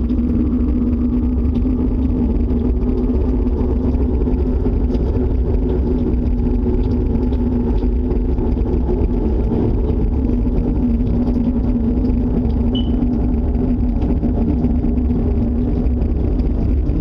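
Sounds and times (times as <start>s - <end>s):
steady low roar with hum: 0.0s - 17.0s.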